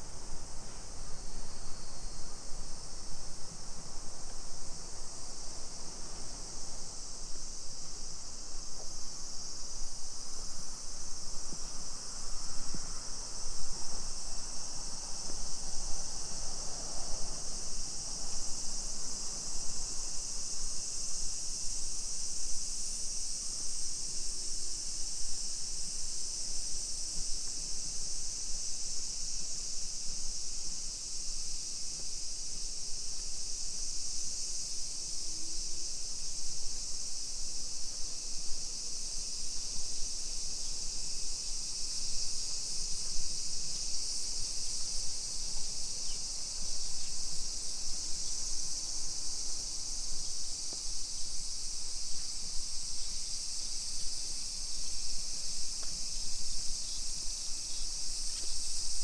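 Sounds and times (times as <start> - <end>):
cicadas buzzing: 0.0 - 59.0
faint street background noise: 0.0 - 59.0.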